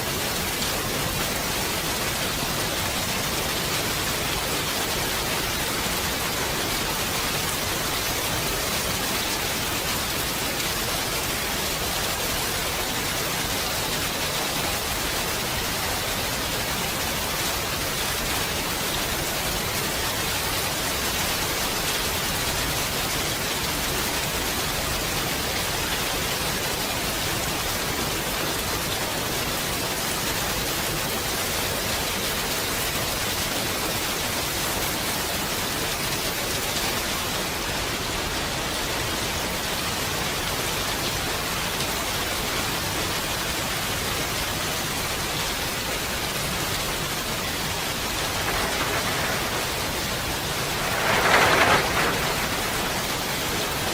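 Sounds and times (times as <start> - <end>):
rain falling steadily: 0.0 - 53.9.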